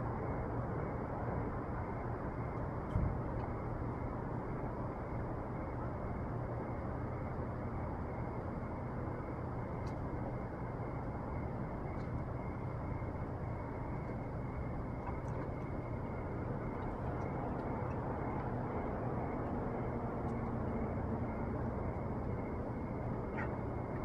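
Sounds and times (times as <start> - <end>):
steady low background noise: 0.0 - 24.0.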